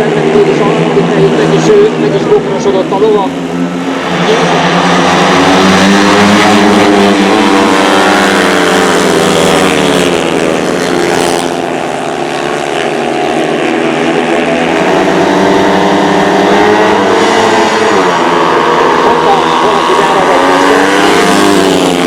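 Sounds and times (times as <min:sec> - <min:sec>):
motorcycle engines racing: 0:00.0 - 0:22.0.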